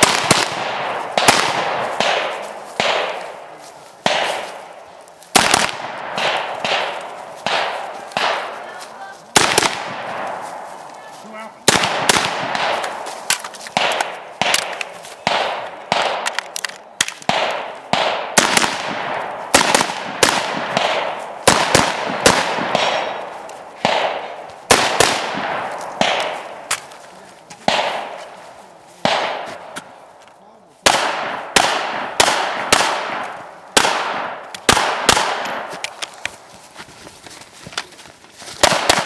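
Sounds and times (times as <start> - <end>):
gunshots echoing: 0.0 - 30.2, 30.8 - 36.4, 38.6 - 39.0.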